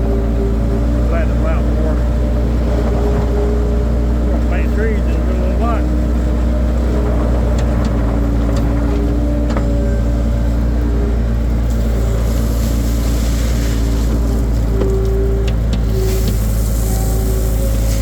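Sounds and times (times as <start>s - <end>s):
loader engine running: 0.0s - 18.0s.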